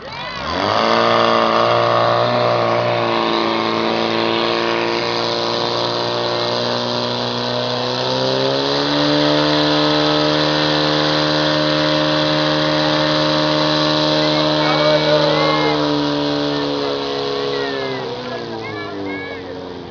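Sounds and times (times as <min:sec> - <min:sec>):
pump engine running at high revs: 0:00.0 - 0:19.9.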